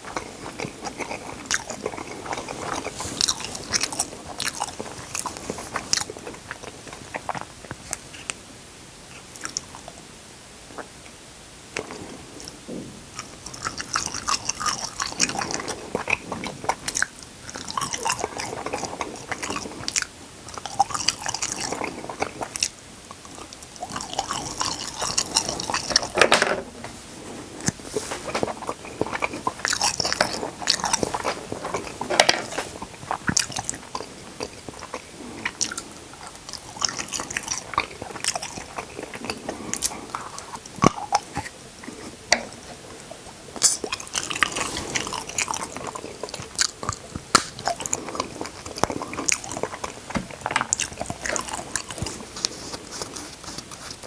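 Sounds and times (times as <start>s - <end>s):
biting and chewing crisp food: 0.0s - 10.1s, 11.7s - 26.4s, 27.0s - 54.0s.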